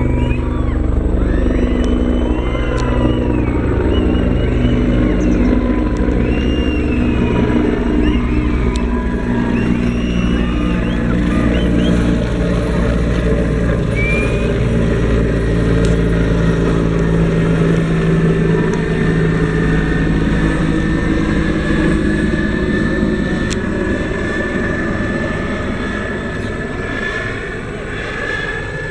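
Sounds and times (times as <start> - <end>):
helicopter rotor and engine drone: 0.0 - 28.9.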